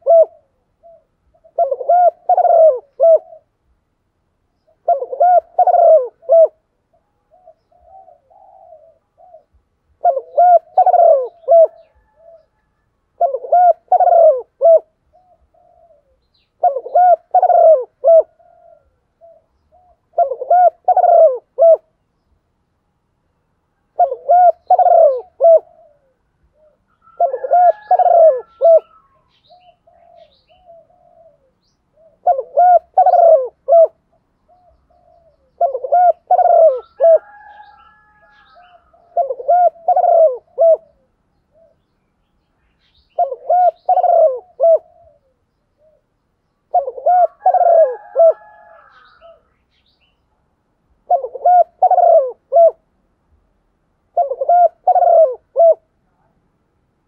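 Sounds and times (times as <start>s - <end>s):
dove cooing: 0.0s - 3.8s, 4.6s - 22.0s, 23.8s - 41.9s, 42.9s - 46.1s, 46.7s - 49.6s, 50.9s - 52.9s, 54.1s - 56.3s.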